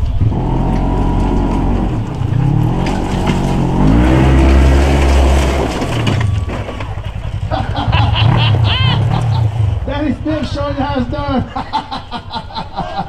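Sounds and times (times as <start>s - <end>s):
engine revving hard: 0.0s - 6.3s, 7.3s - 11.5s.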